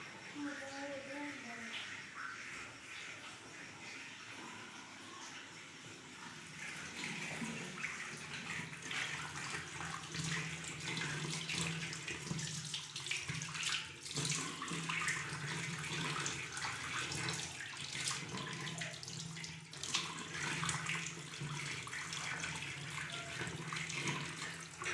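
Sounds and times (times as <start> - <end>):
water running from a tap: 0.0 - 24.9.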